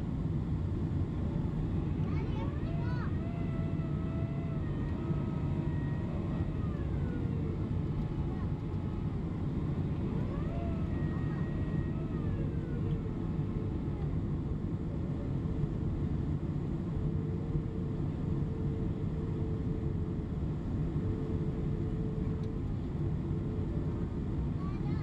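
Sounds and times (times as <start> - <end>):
aircraft cabin roar: 0.0 - 25.0
faint steady hum: 0.0 - 25.0.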